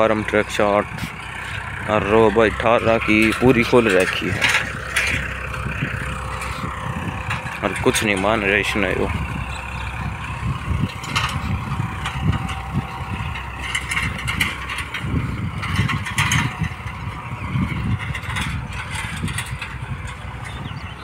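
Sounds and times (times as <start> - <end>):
distant tractor engine rumbling: 0.0 - 21.0.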